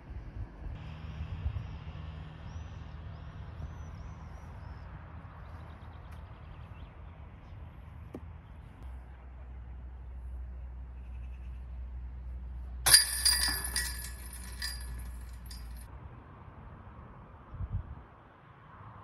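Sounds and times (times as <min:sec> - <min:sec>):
wind: 0:00.0 - 0:19.0
distant traffic: 0:00.8 - 0:17.2.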